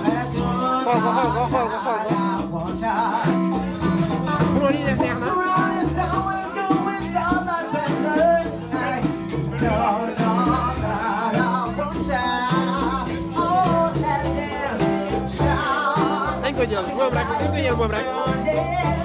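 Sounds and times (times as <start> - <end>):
bass line: 0.0 - 19.0
drums keeping a steady beat: 0.0 - 19.0
guitar: 0.0 - 19.0
person singing: 0.0 - 19.0.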